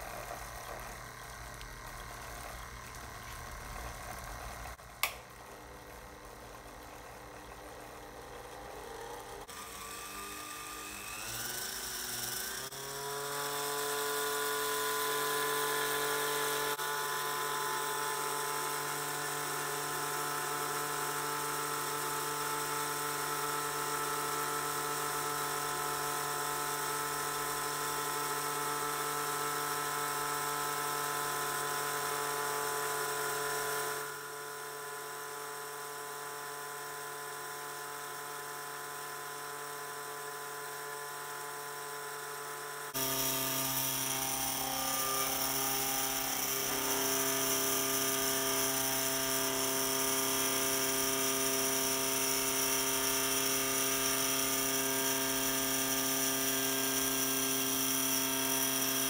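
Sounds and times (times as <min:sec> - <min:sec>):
small electric motors whining: 0:00.0 - 0:04.8, 0:05.8 - 0:59.0
motor spinning up: 0:00.0 - 0:59.0.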